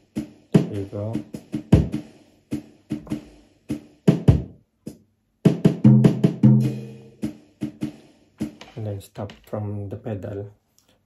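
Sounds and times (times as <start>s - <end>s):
drum machine beat: 0.0s - 9.9s.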